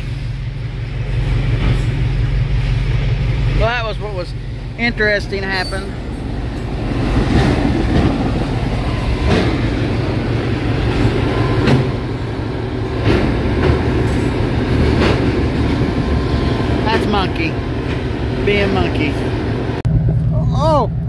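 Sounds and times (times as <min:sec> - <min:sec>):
machinery clanking: 0:00.0 - 0:20.3.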